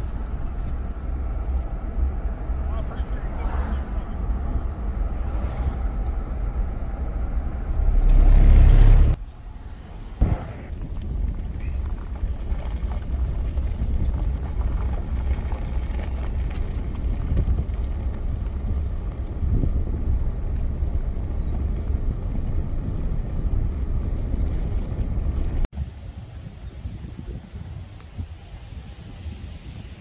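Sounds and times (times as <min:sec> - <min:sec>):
low road rumble: 0:00.0 - 0:30.0
wind buffeting microphone: 0:00.0 - 0:30.0.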